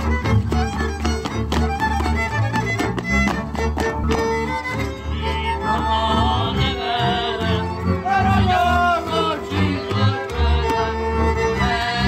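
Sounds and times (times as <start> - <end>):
lively instrumental music: 0.0 - 12.0.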